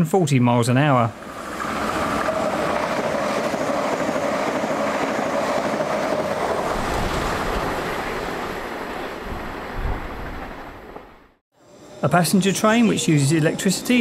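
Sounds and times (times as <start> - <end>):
high-speed train passing: 0.7 - 14.0.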